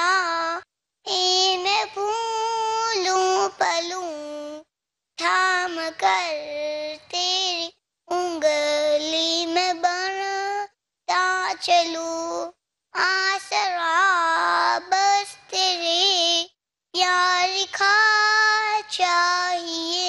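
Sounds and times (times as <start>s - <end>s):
boy singing into a microphone: 0.0s - 4.6s, 5.2s - 20.0s.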